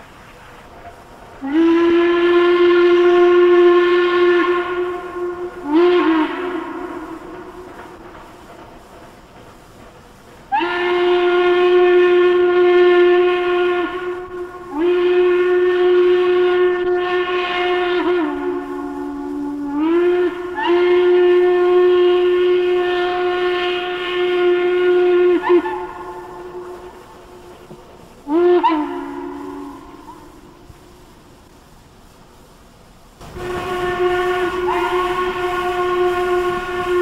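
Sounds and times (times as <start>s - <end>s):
steam locomotive whistle: 1.4s - 8.9s, 10.4s - 31.5s, 33.2s - 37.0s.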